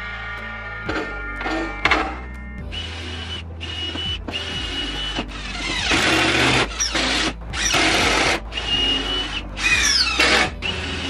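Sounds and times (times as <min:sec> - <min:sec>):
background music: 0:00.0 - 0:11.0
power drill running: 0:00.0 - 0:11.0.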